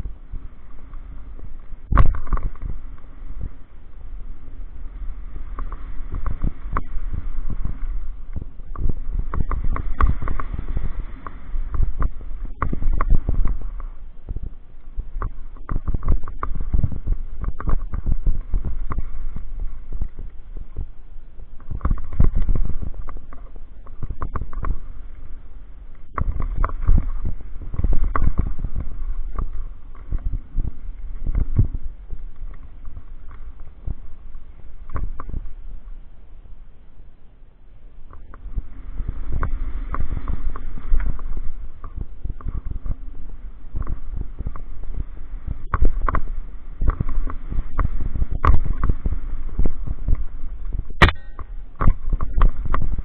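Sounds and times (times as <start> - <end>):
bike tyres rumbling on dirt: 0.0 - 36.2, 38.0 - 53.0
wind on camera: 0.0 - 53.0.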